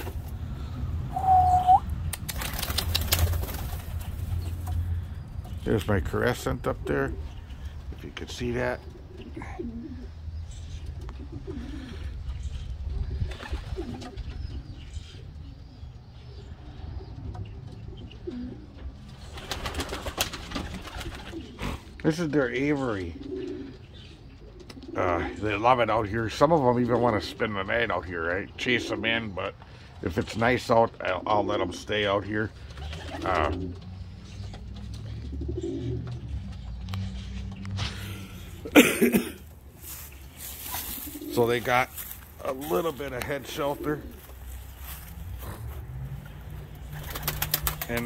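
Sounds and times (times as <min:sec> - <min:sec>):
pigeons cooing: 0:00.0 - 0:05.6, 0:06.4 - 0:30.0, 0:30.9 - 0:48.0.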